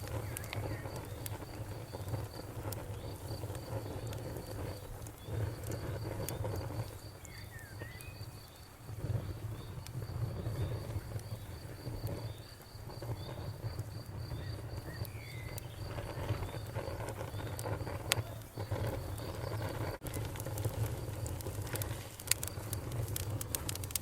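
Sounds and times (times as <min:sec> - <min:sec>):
crickets chirping: 0:00.0 - 0:20.0
bonfire crackling: 0:00.0 - 0:24.0.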